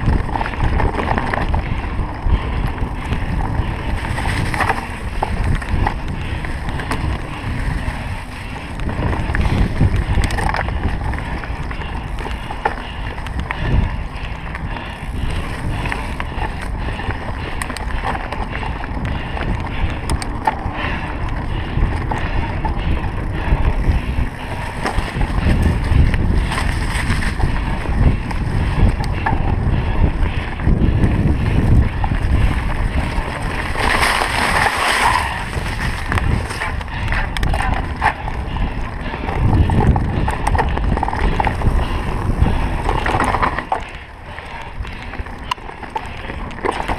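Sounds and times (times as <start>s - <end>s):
bike rattling and clicking: 0.0s - 46.9s
bike tyres rumbling on dirt: 0.0s - 46.9s.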